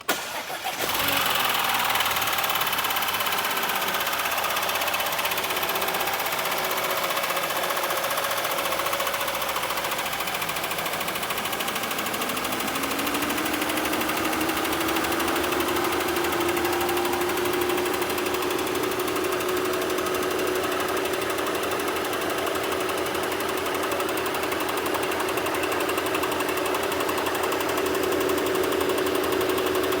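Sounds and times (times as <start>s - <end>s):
car engine knocking: 1.3s - 30.0s.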